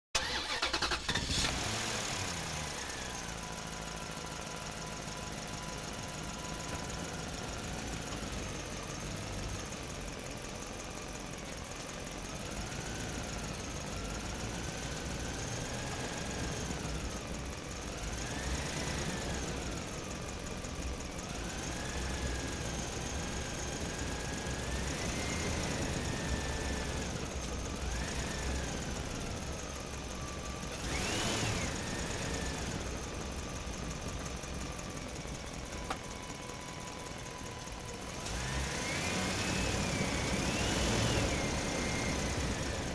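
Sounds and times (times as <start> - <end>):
diesel engine revving with whine: 0.2 - 42.9.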